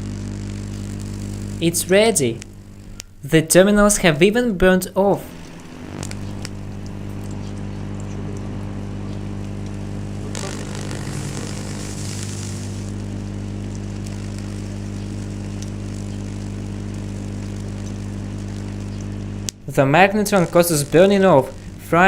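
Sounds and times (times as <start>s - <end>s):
hissing crackling burst: 0.0s - 4.0s, 5.2s - 22.0s
transformer humming: 0.0s - 22.0s.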